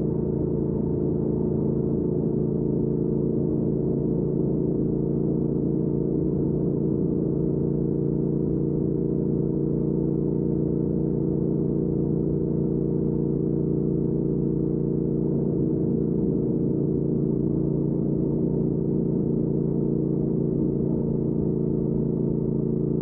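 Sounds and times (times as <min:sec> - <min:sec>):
motorcycle engine running steadily: 0:00.0 - 0:23.0.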